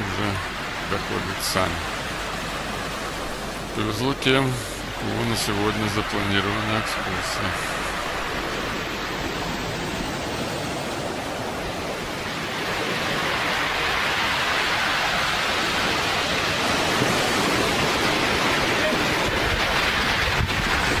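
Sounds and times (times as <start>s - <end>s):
waves breaking on shore: 0.0s - 21.0s.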